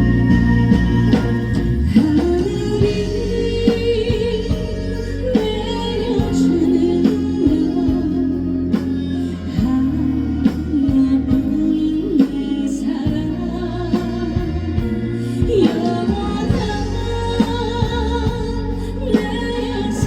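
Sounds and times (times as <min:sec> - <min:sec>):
lead melody line: 0:00.0 - 0:20.0
steady drum beat: 0:00.0 - 0:20.0
sustained bass: 0:00.0 - 0:20.0.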